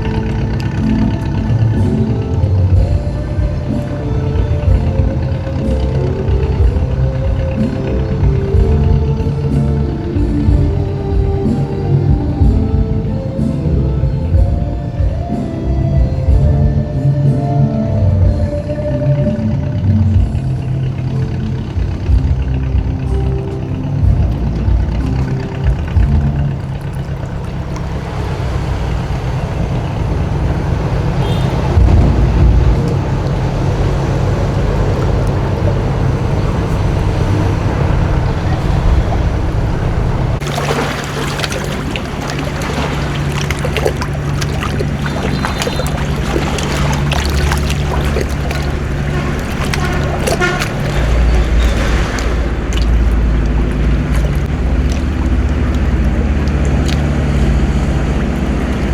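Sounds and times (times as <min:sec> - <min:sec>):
boat engine drone: 0:00.0 - 0:58.9
rushing water and wind: 0:00.0 - 0:58.9.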